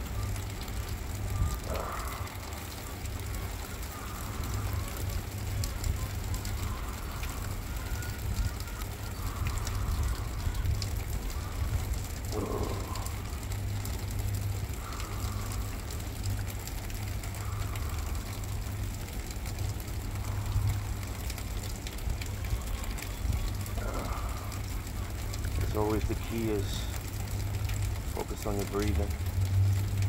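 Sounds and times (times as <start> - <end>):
light rain pattering: 0.0 - 30.0
steady low rumble: 0.0 - 30.0.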